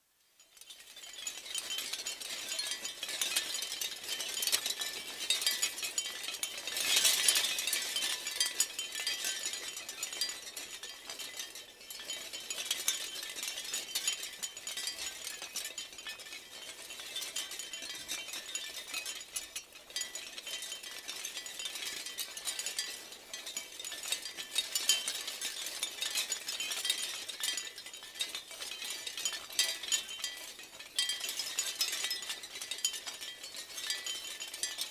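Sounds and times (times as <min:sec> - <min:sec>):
wind chimes jangling: 0:00.4 - 0:34.9.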